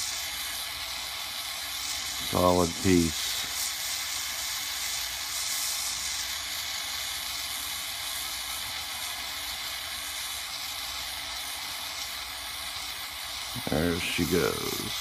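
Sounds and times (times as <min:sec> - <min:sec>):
gas torch flame hissing: 0:00.0 - 0:15.0.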